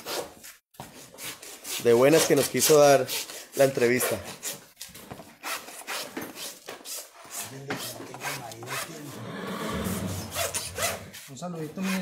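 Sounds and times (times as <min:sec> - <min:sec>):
hoof rasp scraping: 0:00.0 - 0:12.0.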